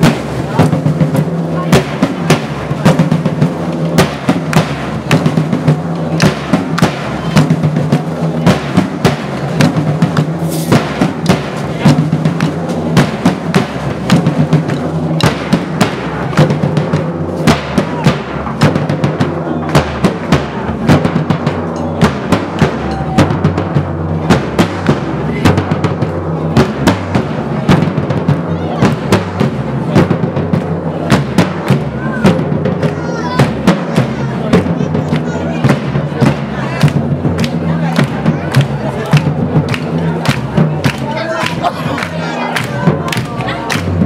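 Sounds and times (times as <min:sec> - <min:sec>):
rapid drum beats: 0:00.0 - 0:44.0.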